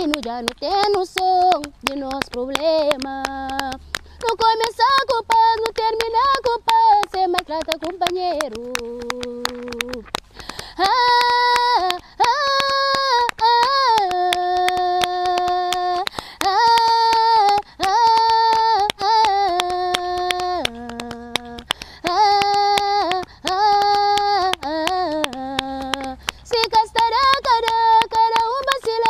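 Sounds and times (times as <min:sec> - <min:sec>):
women singing: 0:00.0 - 0:10.1, 0:10.7 - 0:29.0
clapped beat: 0:00.0 - 0:29.0.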